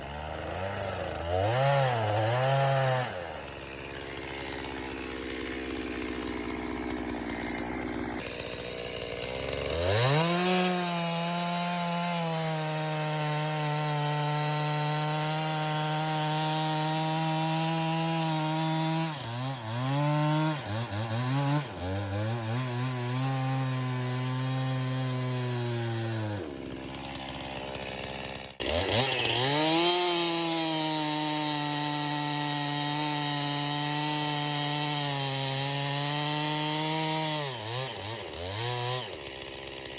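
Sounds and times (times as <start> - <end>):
chainsaw cutting log: 0.0 - 39.9
chainsaw idling: 0.0 - 39.9.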